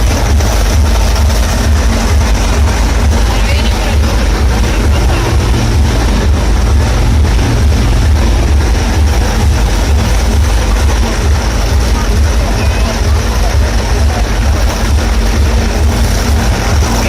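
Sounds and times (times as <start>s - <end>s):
monster truck engine running: 0.0s - 17.0s.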